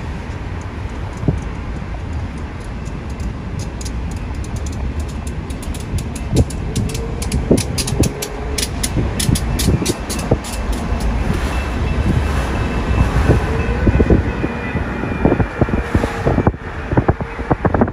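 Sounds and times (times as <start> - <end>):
train wheels clicking over rail joints: 0.0 - 14.4
freight train rumble: 0.0 - 17.9.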